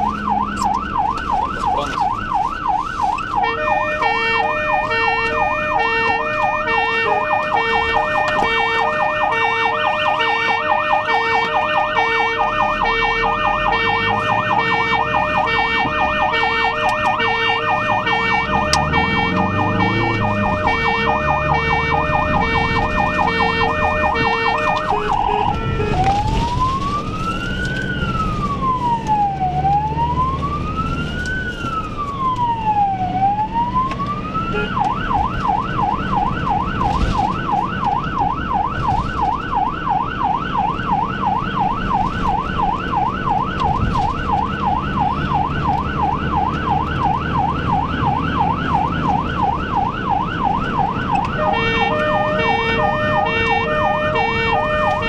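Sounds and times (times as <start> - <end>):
ambulance siren: 0.0 - 55.0
engine and road noise: 0.0 - 55.0.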